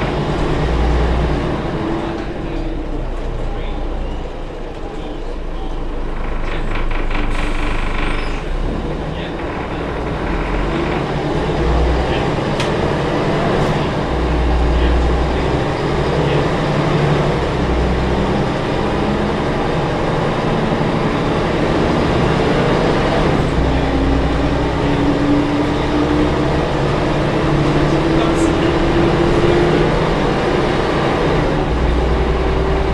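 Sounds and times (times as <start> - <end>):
bus diesel engine rumble: 0.0 - 32.9.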